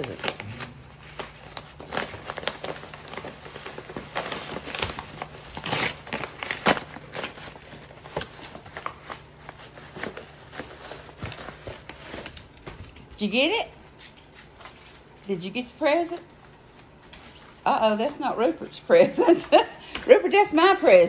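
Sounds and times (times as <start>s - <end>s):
dogs ripping wrapping paper: 0.0s - 21.0s.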